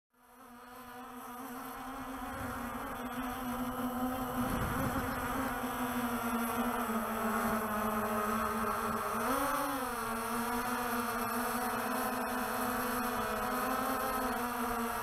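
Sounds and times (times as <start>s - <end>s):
drone rotors buzzing: 0.3s - 15.0s.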